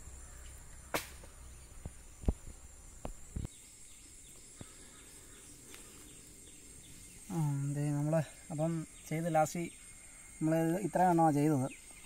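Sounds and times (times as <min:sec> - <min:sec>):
high-pitched insect drone: 0:02.2 - 0:12.0.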